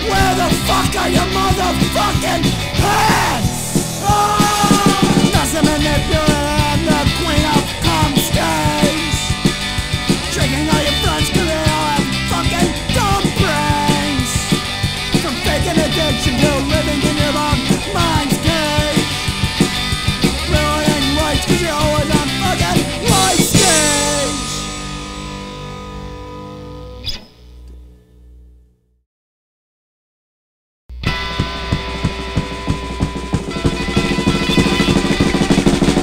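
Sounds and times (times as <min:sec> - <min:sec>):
punk rock band playing: 0:00.0 - 0:27.1, 0:31.0 - 0:36.0.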